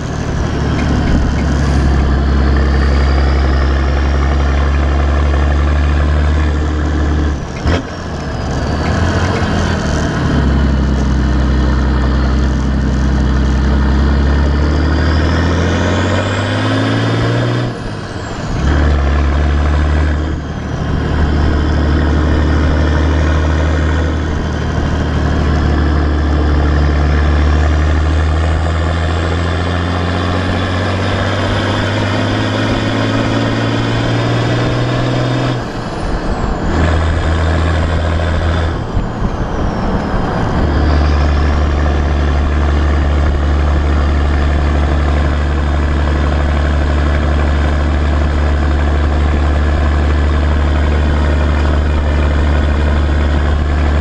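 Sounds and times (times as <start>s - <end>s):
diesel engine exhaust accelerating: 0.0s - 54.0s.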